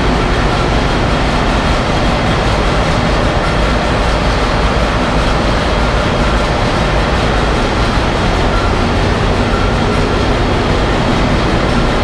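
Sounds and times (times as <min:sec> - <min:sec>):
marine engine running: 0:00.0 - 0:12.0.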